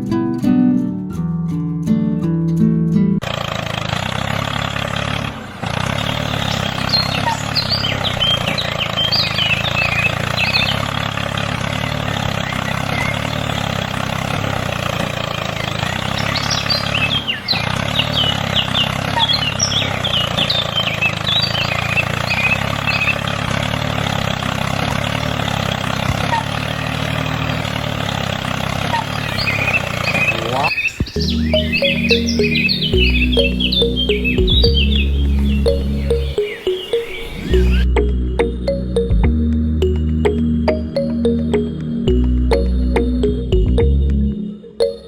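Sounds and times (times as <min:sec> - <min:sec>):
engine idling: 0:03.2 - 0:44.3
birds chirping: 0:05.9 - 0:45.0.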